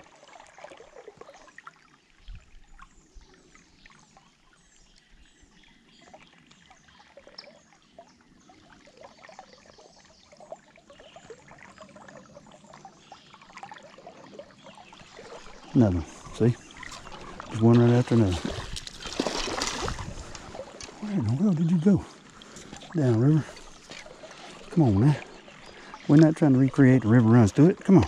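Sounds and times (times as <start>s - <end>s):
creek water running: 0.0s - 28.0s
small ticks and splashes: 0.0s - 28.0s.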